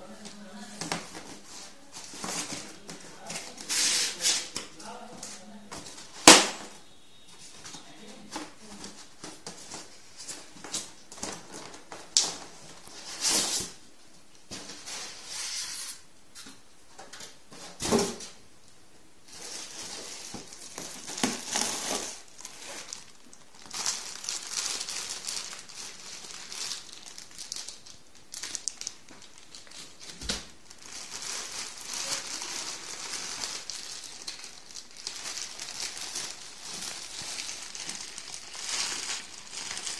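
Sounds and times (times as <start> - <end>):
plastic wrap and foam crinkling: 0.0 - 13.8, 19.2 - 39.9.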